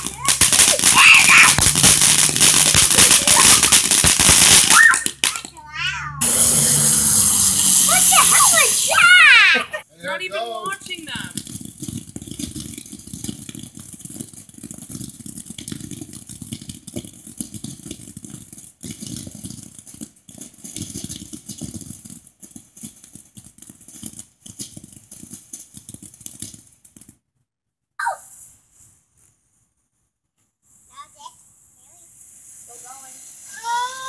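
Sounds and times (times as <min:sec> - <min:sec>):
firework fountain crackling: 0:00.0 - 0:27.2, 0:30.8 - 0:34.0.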